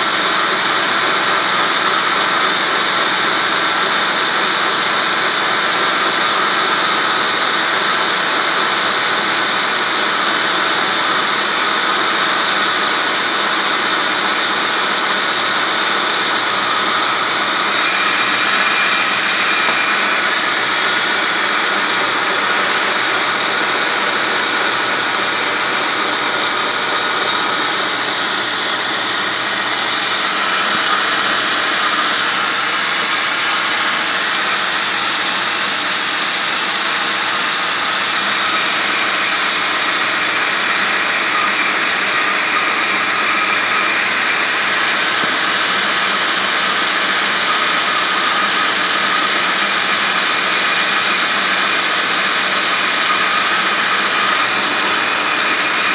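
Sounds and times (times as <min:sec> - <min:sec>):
engine belt rush with whining: 0:00.0 - 0:55.9.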